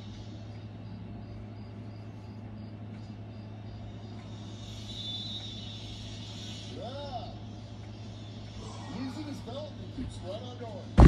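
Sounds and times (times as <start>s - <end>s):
high-pitched cricket-like chirp: 0.0s - 11.0s
steady low hum: 0.0s - 11.0s.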